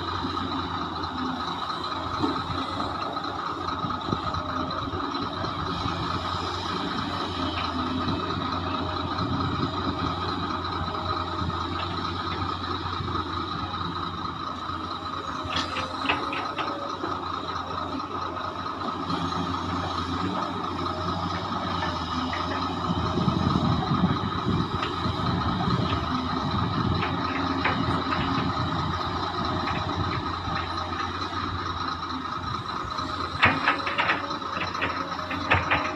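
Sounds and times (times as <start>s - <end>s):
excavator diesel rumble: 0.0s - 35.9s.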